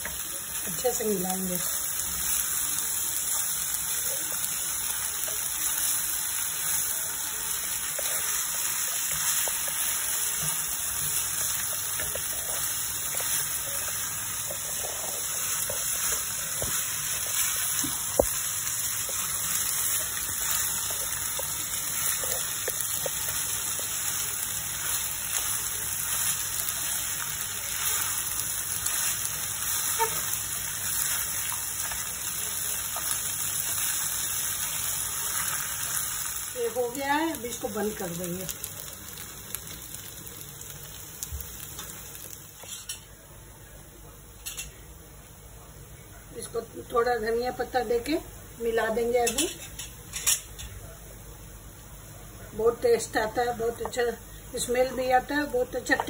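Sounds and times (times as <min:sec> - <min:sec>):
food frying in a pan: 0:00.0 - 0:56.0.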